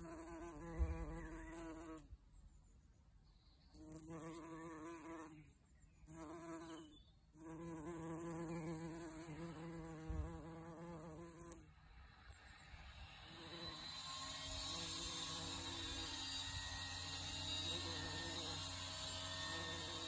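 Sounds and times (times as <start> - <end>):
bumblebee buzzing in flight: 0.0 - 2.1, 3.8 - 5.5, 6.1 - 11.6, 13.3 - 20.0.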